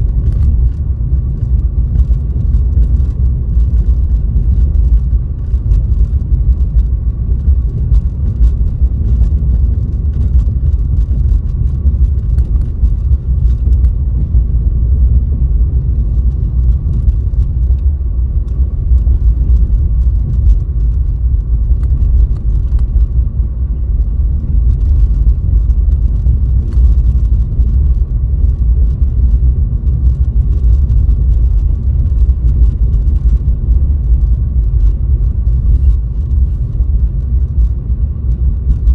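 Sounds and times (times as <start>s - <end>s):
car driving on snowy road: 0.0s - 38.9s.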